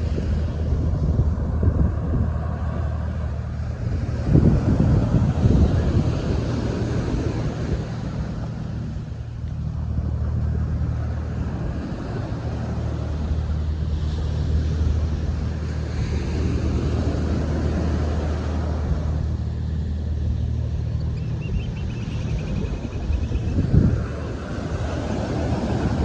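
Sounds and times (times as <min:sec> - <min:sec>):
ship engine low drone: 0:00.0 - 0:26.0
waves washing on a beach: 0:00.0 - 0:26.0
wind buffeting microphone: 0:00.0 - 0:26.0.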